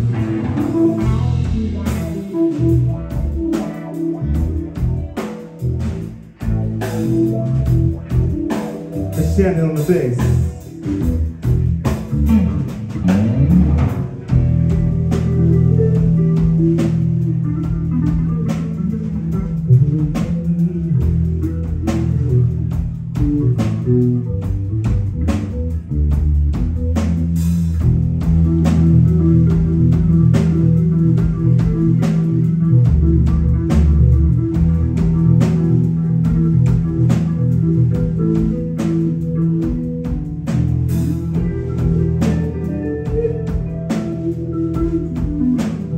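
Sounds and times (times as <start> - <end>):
drum kit: 0.0 - 45.9
electric bass guitar: 0.0 - 45.9
electric guitar: 0.0 - 45.9.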